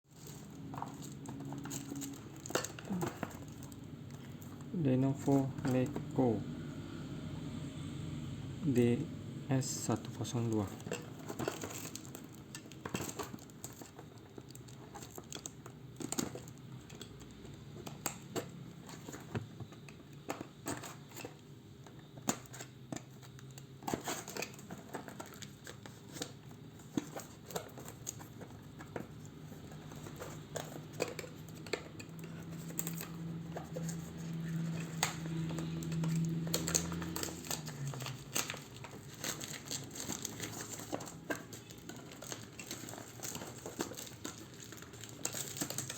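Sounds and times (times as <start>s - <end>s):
packaging crinkling and tearing: 0.1s - 6.4s, 9.6s - 19.8s, 22.0s - 45.9s.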